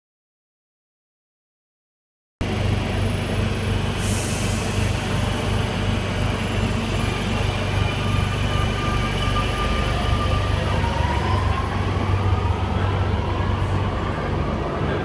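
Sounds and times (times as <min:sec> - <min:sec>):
train rumble: 0:02.4 - 0:15.0.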